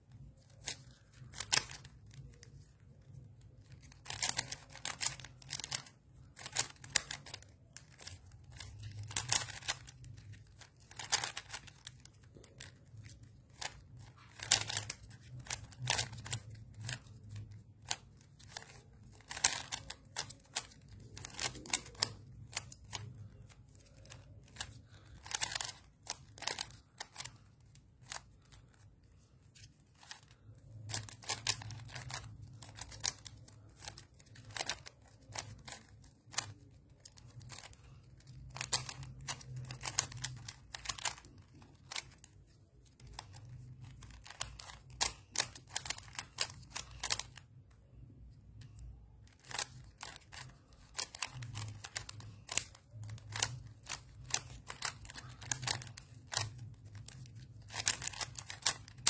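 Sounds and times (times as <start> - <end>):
speed cube clicking: 0.4 - 59.0.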